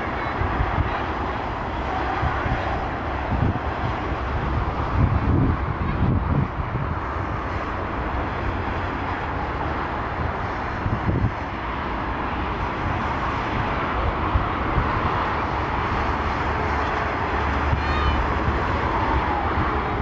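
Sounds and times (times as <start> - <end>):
jet engines rushing: 0.0 - 20.0
wind rumble on microphone: 0.0 - 20.0.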